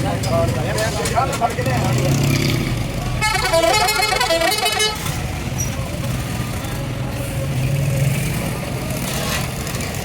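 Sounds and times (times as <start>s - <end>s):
low rumble of traffic: 0.0s - 10.0s.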